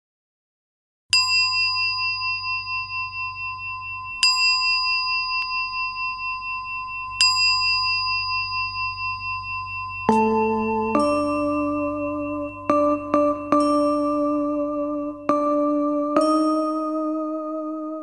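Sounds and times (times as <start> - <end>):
singing bowl ringing: 1.2 - 18.0.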